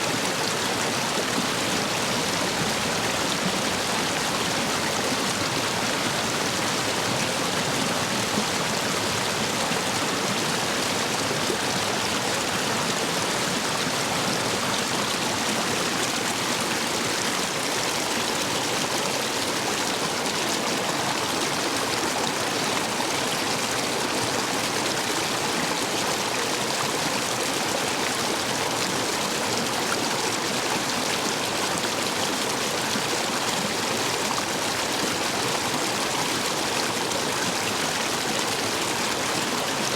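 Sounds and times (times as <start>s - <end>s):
stream water rushing over stones: 0.0s - 39.9s.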